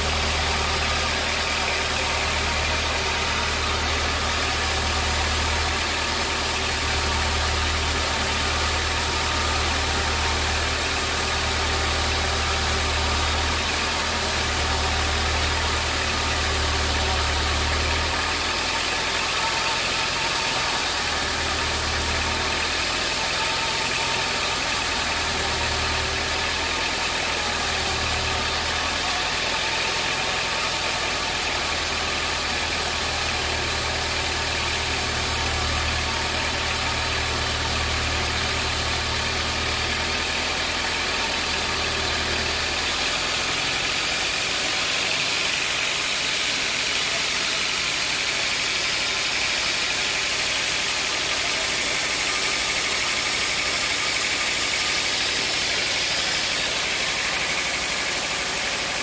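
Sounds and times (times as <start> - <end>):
sawmill machinery hiss: 0.0 - 59.0.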